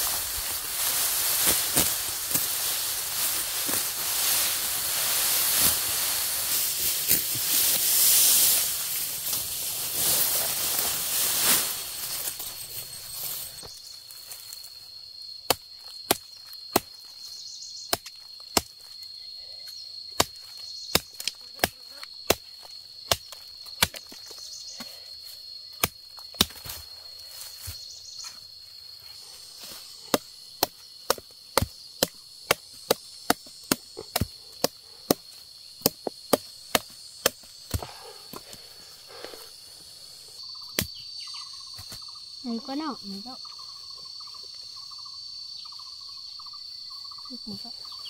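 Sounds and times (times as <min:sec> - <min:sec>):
insect trill: 0:00.0 - 0:48.0.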